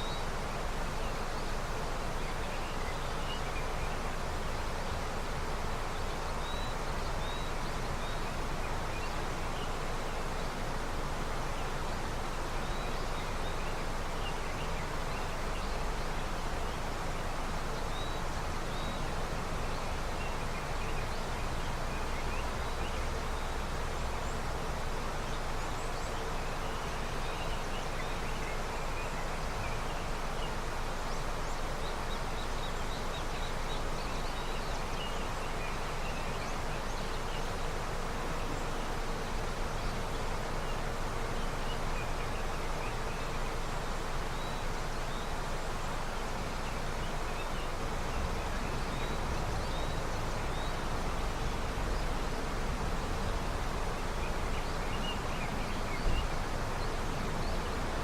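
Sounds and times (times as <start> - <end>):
river flowing: 0.0 - 58.0
small birds chirping: 0.0 - 58.0.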